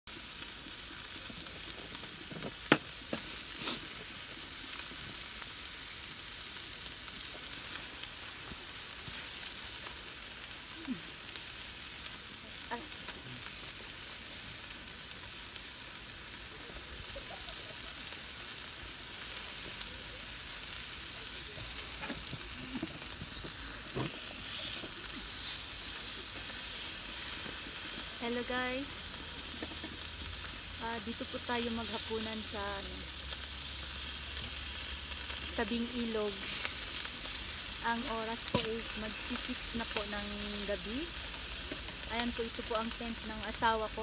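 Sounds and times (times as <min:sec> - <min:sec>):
meat sizzling in a pan: 0:00.1 - 0:44.0.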